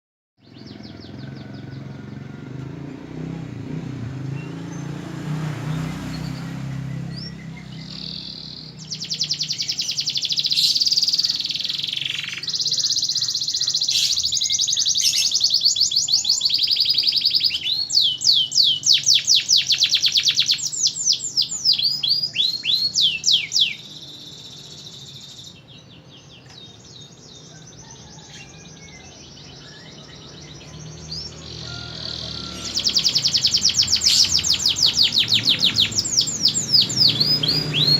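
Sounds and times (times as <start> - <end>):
canary singing trills: 0.4 - 37.9
faint chirping: 5.8 - 37.9.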